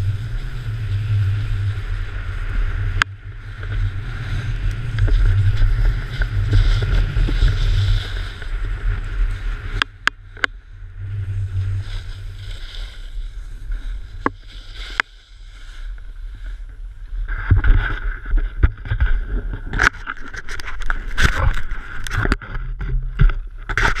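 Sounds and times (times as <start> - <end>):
snowboard scraping over snow: 0.0 - 19.8
wind rumbling on microphone: 0.0 - 24.0.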